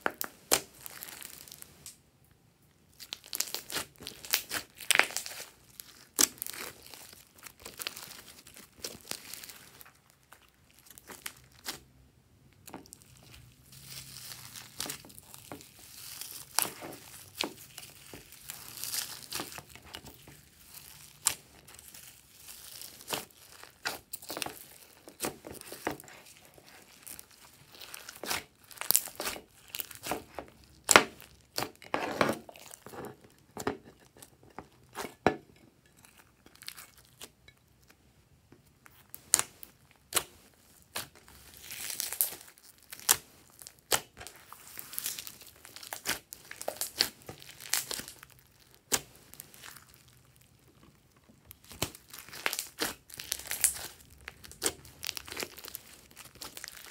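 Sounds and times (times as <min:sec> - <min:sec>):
slime popping and crackling: 0:00.0 - 0:02.0, 0:02.9 - 0:11.9, 0:12.5 - 0:33.4, 0:38.8 - 0:56.9.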